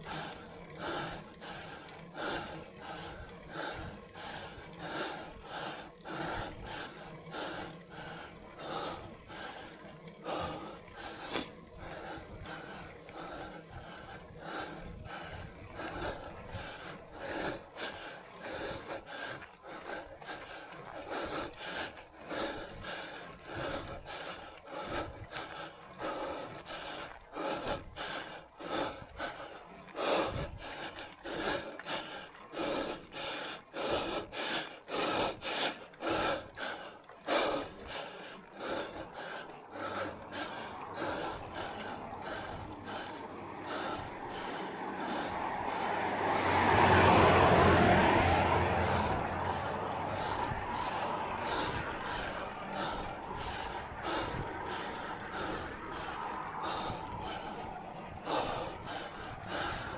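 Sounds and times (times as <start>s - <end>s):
hard rhythmic breathing: 0.0s - 59.9s
passing motor vehicle: 0.0s - 59.9s.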